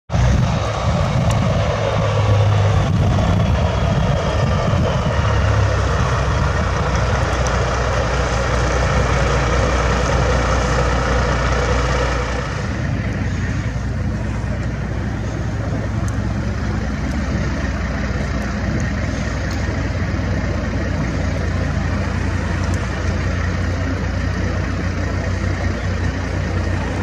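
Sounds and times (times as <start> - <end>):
diesel machinery running: 0.1 - 27.0.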